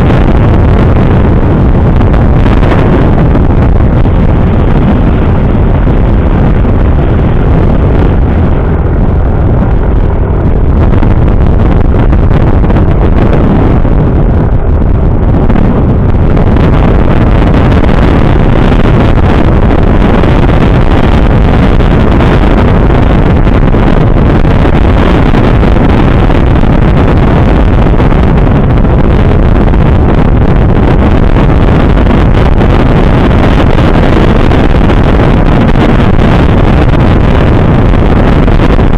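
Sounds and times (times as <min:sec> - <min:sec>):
motorcycle road and engine noise: 0:00.0 - 0:38.9
wind buffeting microphone: 0:00.0 - 0:38.9.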